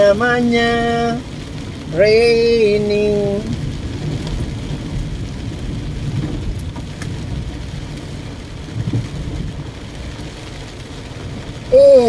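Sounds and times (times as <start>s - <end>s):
rain hissing on car body: 0.0s - 12.0s
road and engine rumble: 0.0s - 12.0s.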